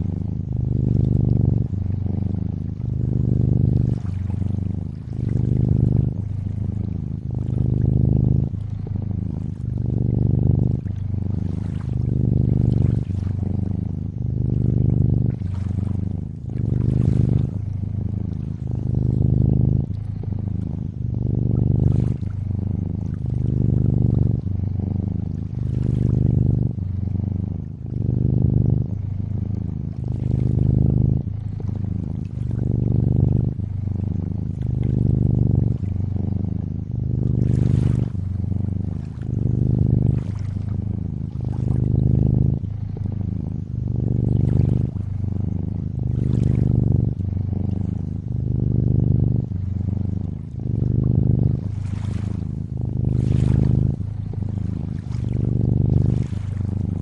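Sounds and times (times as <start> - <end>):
water lapping and trickling: 0.0 - 24.7, 25.3 - 26.8, 27.6 - 36.0, 36.6 - 57.0
cat purring: 0.0 - 57.0.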